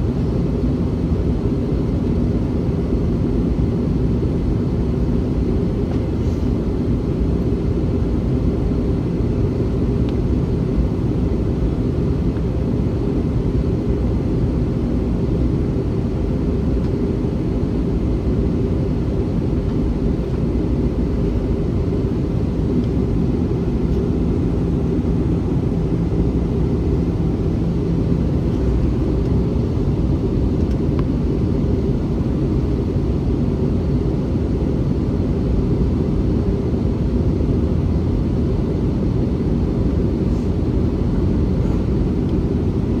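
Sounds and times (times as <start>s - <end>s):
airplane cabin rumble: 0.0s - 43.0s.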